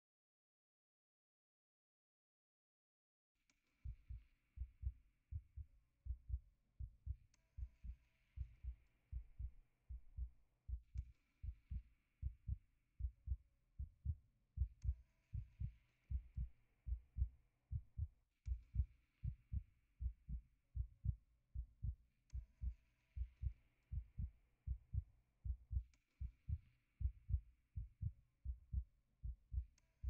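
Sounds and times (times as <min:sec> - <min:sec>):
heartbeat thumps: 0:03.9 - 0:29.8.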